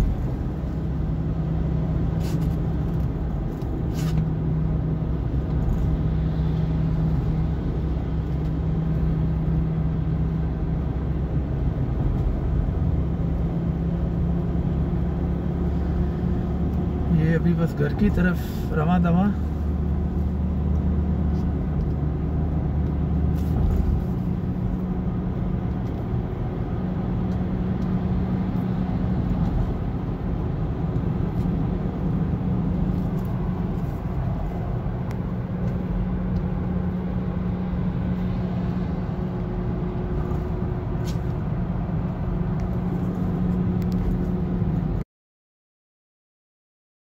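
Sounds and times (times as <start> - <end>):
car road and engine noise: 0.0 - 45.0.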